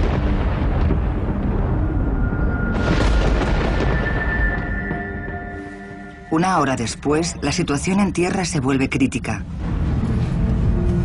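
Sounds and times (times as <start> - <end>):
deep storm rumble: 0.0 - 7.9, 9.3 - 11.0
dramatic orchestral score: 0.0 - 11.0.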